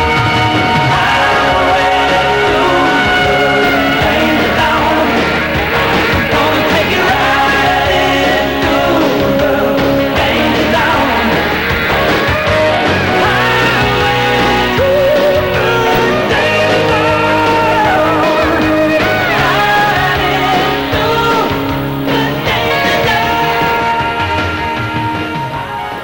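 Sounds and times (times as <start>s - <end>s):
person singing: 0.0s - 11.6s, 12.8s - 24.8s
rock guitar: 0.0s - 26.0s.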